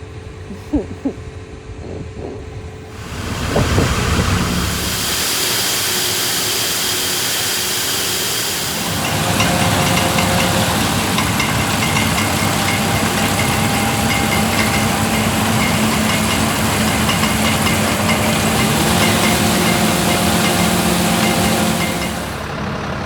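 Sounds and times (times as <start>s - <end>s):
large engine running steadily: 0.0s - 23.0s
steady whining tones: 1.3s - 22.6s.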